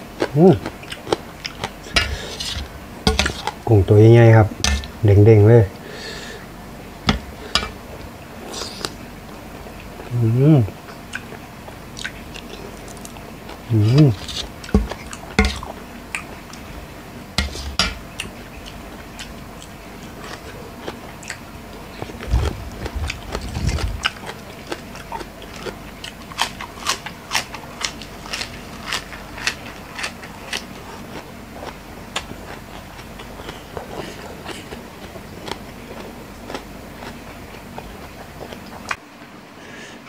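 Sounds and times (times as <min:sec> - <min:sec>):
crunching and chewing: 0:00.0 - 0:04.0, 0:07.1 - 0:39.1.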